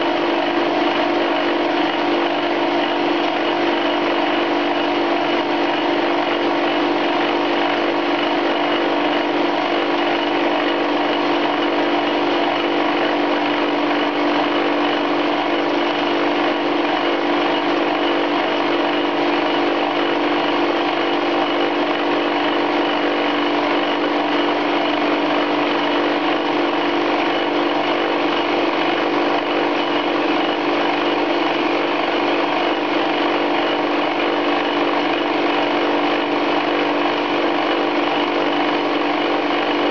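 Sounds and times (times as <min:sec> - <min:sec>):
lathe running: 0:00.0 - 0:39.9.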